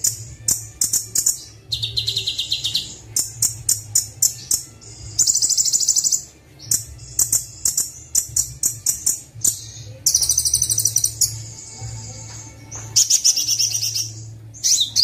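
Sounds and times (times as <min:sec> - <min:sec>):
buzzy bird trills: 0:00.0 - 0:12.0, 0:12.8 - 0:15.0
bird chirping: 0:00.0 - 0:15.0.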